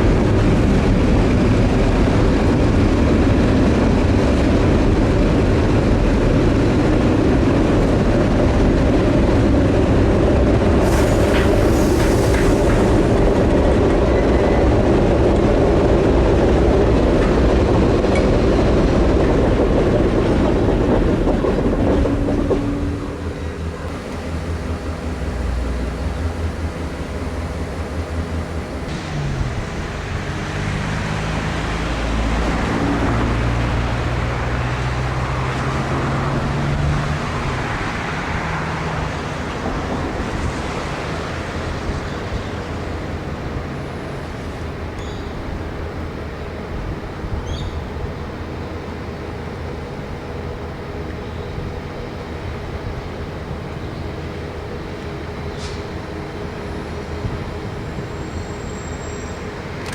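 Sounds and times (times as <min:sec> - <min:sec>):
diesel locomotive engine droning: 0:00.0 - 0:59.9
train wheels rumbling on rails: 0:00.0 - 0:59.9.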